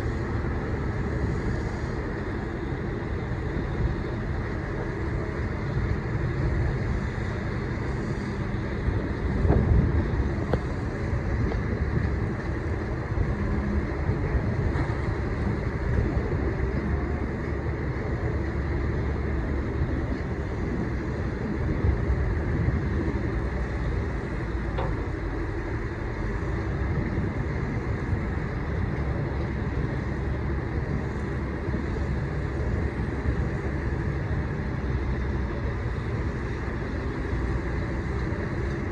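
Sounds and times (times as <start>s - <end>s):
boat engine running: 0.0s - 38.9s
wind on microphone: 0.0s - 38.9s.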